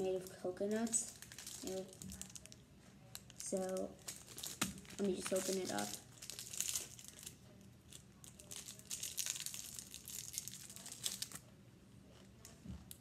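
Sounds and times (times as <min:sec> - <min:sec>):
plastic wrapper crinkling: 0:00.0 - 0:11.5.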